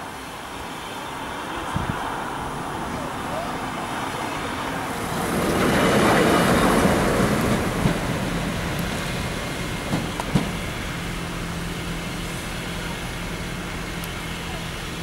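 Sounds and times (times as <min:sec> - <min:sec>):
diesel train running on rails: 0:00.0 - 0:15.0.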